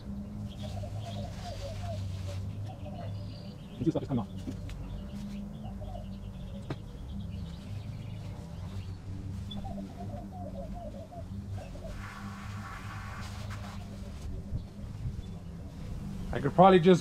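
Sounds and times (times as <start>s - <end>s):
birds calling: 0.0s - 17.0s
steady low hum: 0.0s - 17.0s.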